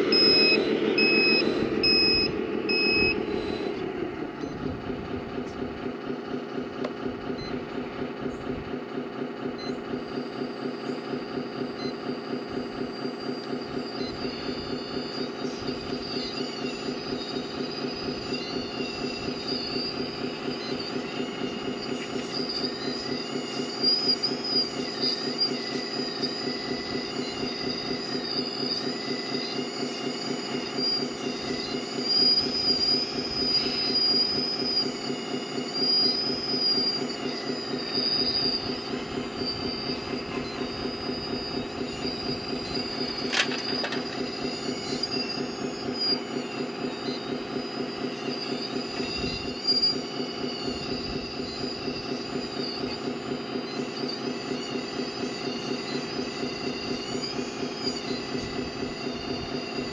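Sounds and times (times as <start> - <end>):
reversing beeps: 0.0 - 8.6, 9.5 - 59.9
hydraulic pump whine: 0.0 - 59.9.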